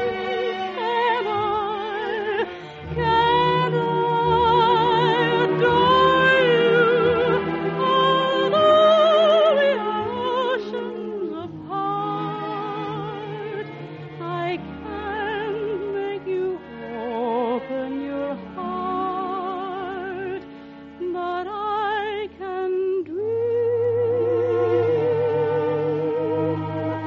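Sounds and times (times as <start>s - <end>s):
operatic orchestral music: 0.0s - 20.4s, 24.1s - 27.0s.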